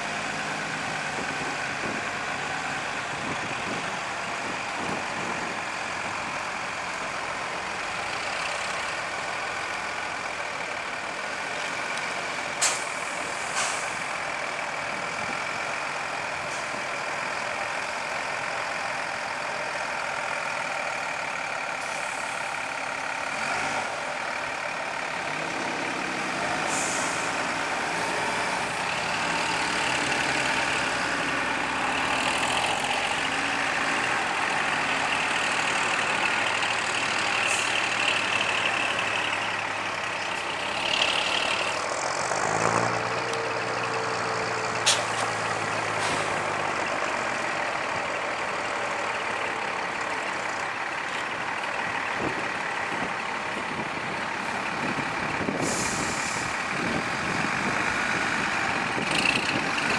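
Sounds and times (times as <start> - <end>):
diesel bus engines driving past: 0.0 - 59.9.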